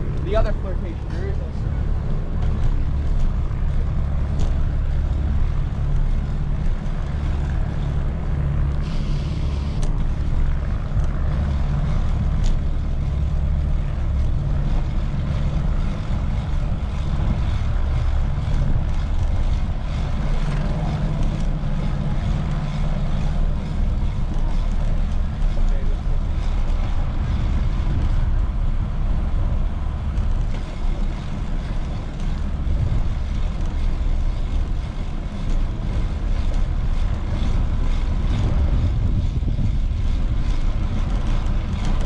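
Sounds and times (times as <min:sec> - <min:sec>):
street traffic: 0:00.0 - 0:42.0
wind rumbling on microphone: 0:00.0 - 0:42.0.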